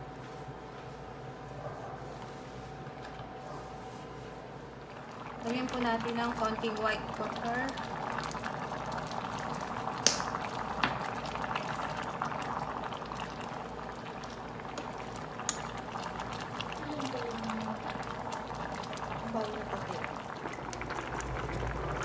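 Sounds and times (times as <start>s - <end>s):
soup boiling and bubbling: 4.3s - 22.0s.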